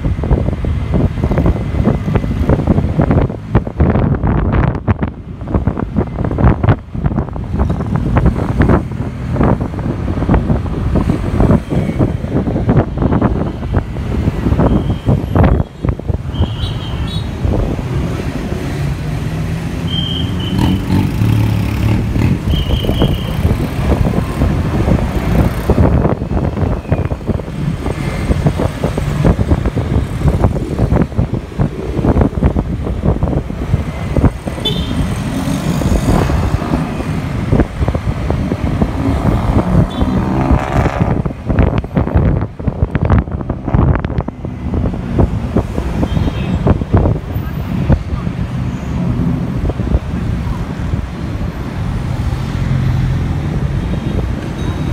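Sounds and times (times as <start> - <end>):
wind buffeting microphone: 0.0 - 16.6, 17.2 - 19.8, 20.6 - 54.9
road traffic: 0.0 - 54.9.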